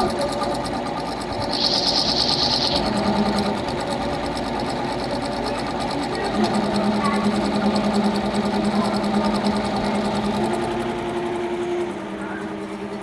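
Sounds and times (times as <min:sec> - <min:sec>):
sewing machine stitching: 0:00.0 - 0:13.0.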